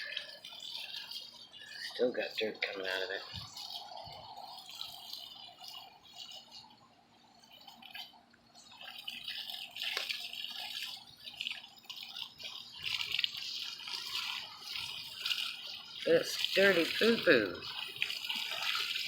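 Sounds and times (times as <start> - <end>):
hose water spraying and splashing: 0.0 - 19.0.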